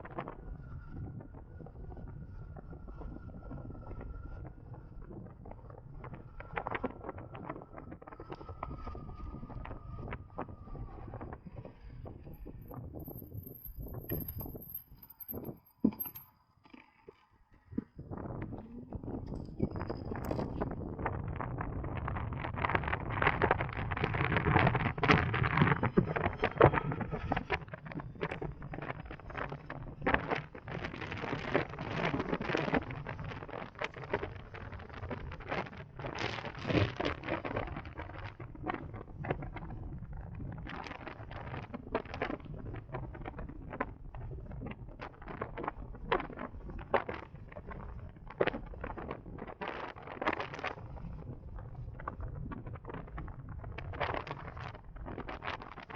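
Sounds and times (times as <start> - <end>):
wind buffeting microphone: 0.0 - 16.0, 17.7 - 55.9.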